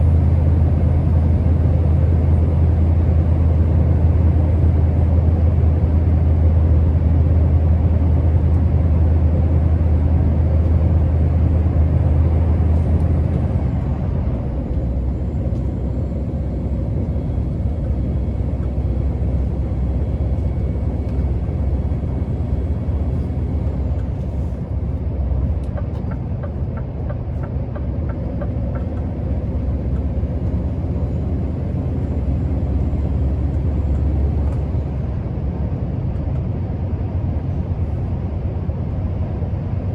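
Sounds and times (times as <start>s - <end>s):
diesel truck engine droning: 0.0s - 39.9s.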